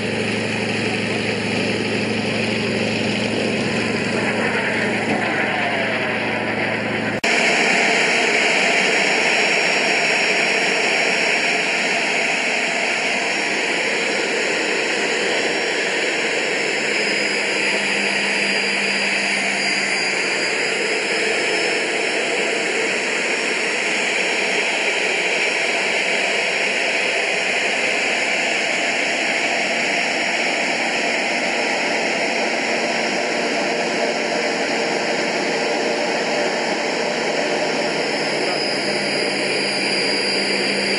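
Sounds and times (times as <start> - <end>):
distant jet: 0.0 - 40.9
faint high whine: 0.0 - 40.9
jet engine and airflow noise: 0.0 - 40.9.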